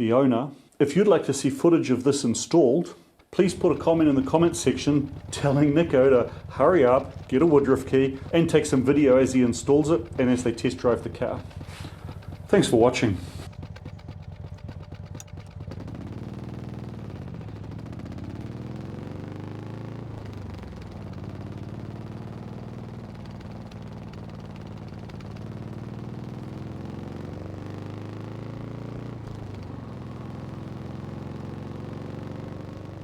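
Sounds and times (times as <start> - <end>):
engine running with pulsing beat: 3.4 - 33.0.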